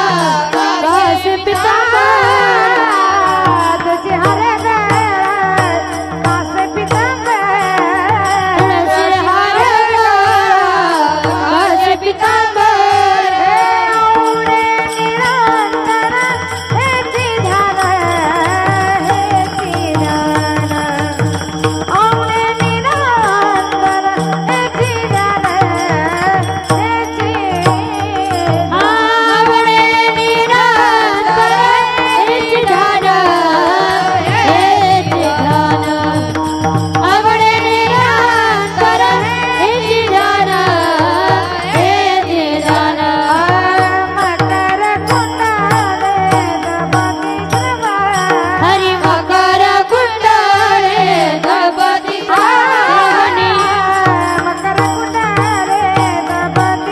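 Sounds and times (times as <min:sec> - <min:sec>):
hand cymbals: 0:00.0 - 0:56.9
two-headed drum: 0:00.0 - 0:56.9
woman singing: 0:00.0 - 0:56.9.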